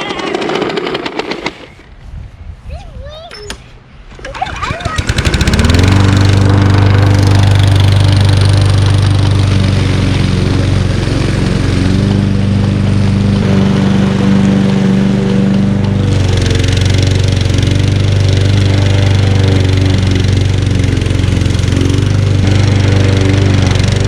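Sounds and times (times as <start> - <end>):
lawn mower engine running: 0.0 - 1.8, 4.1 - 24.0.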